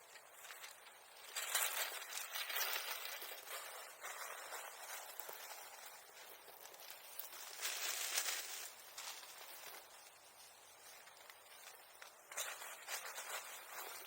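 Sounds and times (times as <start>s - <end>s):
dry brush rustling and crackling: 0.0s - 14.0s.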